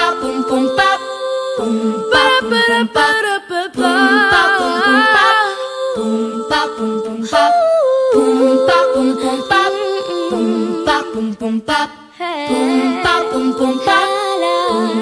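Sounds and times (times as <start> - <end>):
voices singing with vibrato: 0.0 - 15.0.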